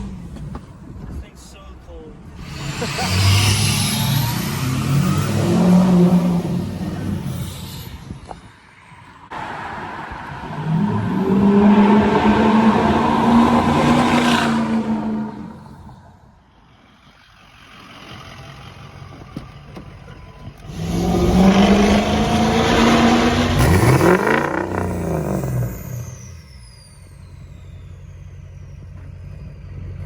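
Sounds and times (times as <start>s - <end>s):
diesel truck accelerating: 0.0s - 30.0s.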